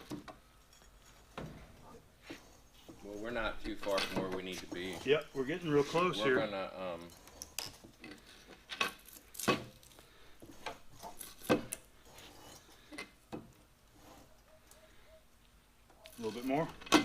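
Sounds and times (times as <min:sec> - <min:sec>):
metal and wood knocks and scrapes: 0:00.0 - 0:14.5, 0:15.9 - 0:17.0.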